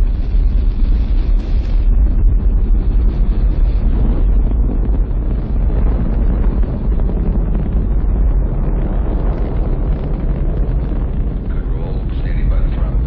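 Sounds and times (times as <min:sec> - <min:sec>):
rocket launch roar: 0:00.0 - 0:13.0.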